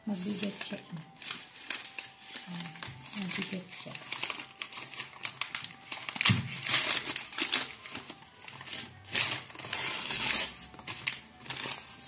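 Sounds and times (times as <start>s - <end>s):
wrapping paper tearing and rustling: 0.0s - 12.0s.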